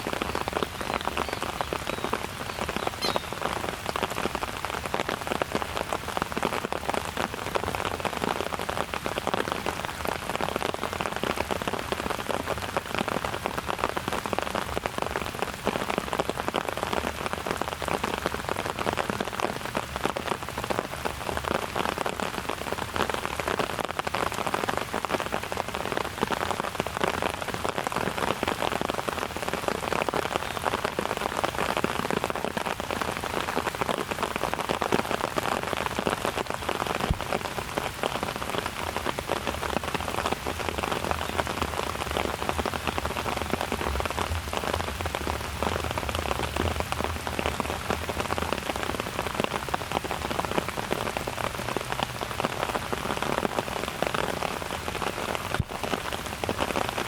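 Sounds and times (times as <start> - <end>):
raindrops ticking close by: 0.0 - 57.0
steady rain hiss: 0.0 - 57.0.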